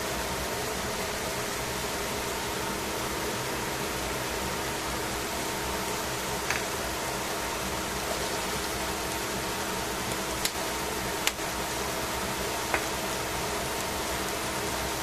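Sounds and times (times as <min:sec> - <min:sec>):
vegetables sizzling in a pan: 0:01.4 - 0:15.0.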